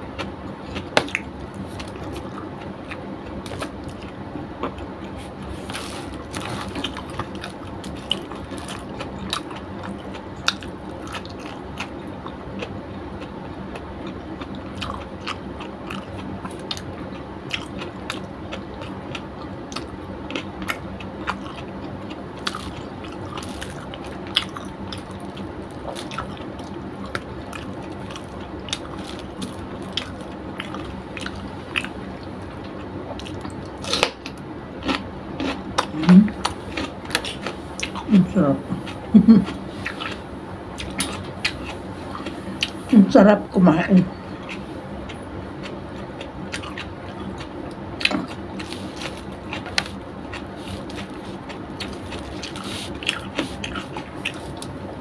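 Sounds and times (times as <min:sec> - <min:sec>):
chewing and crunching food: 0:00.0 - 0:43.0, 0:44.0 - 0:55.0.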